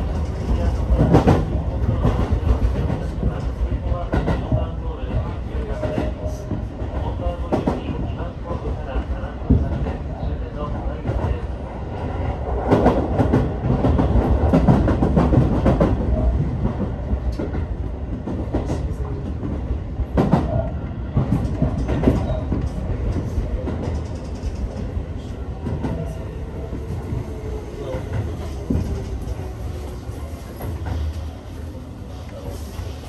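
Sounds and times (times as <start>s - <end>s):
train low rumble: 0.0s - 33.0s.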